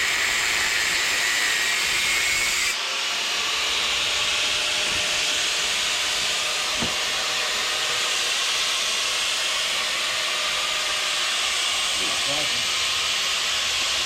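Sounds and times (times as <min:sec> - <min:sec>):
welding hiss: 0:00.0 - 0:02.8, 0:03.5 - 0:14.0.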